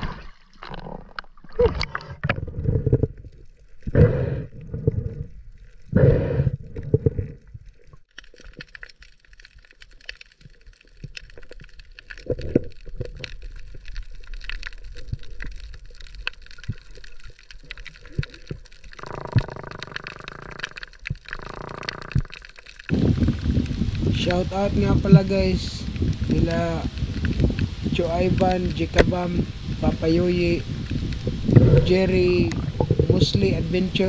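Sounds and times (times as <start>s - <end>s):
water rushing underwater: 0.0s - 8.8s, 9.6s - 34.0s
underwater crackling and clicking: 0.0s - 34.0s.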